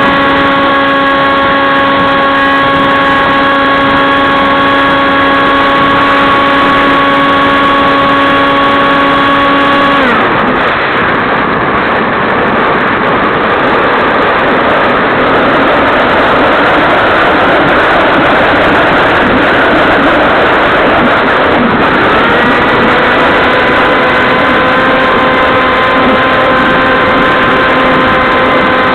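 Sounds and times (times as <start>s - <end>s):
wind rush: 0.0s - 28.9s.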